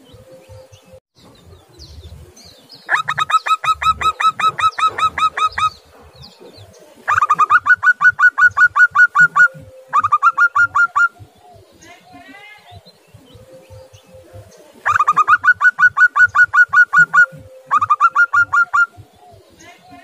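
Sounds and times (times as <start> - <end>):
dove calling in clipped notes: 0.0 - 20.0.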